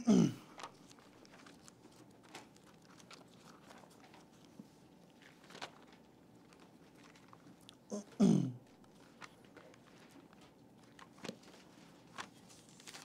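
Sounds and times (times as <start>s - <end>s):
pages turning: 0.5s - 7.8s, 8.7s - 13.0s.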